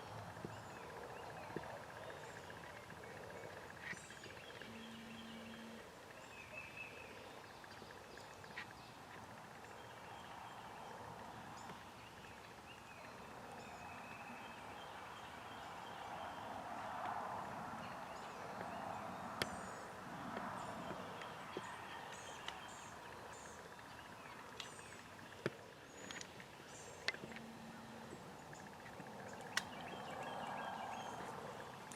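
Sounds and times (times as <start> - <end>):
songbirds chirping: 0.0 - 31.9.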